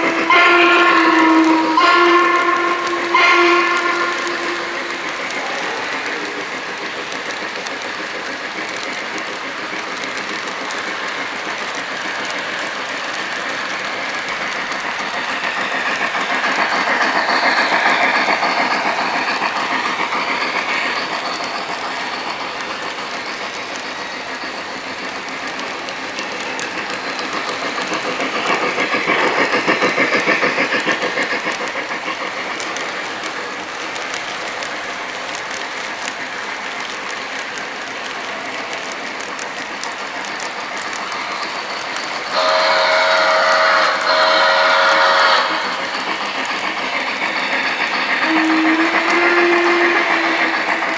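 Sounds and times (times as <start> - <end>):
model train wheels clicking on rails: 0.0 - 50.9.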